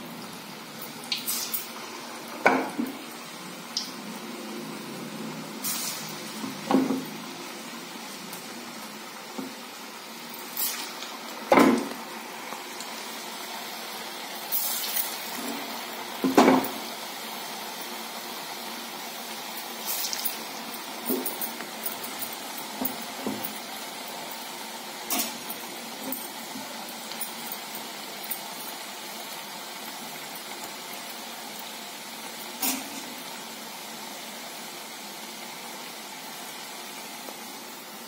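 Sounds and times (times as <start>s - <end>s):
hot oil sizzling and bubbling: 0.0s - 38.0s.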